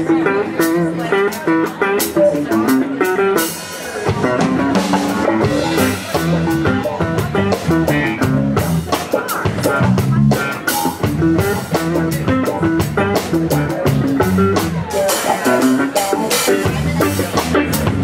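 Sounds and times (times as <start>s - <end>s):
bass guitar: 0.0s - 18.0s
drum kit with cymbals: 0.0s - 18.0s
electric keyboard: 0.0s - 18.0s
lead guitar: 0.0s - 18.0s.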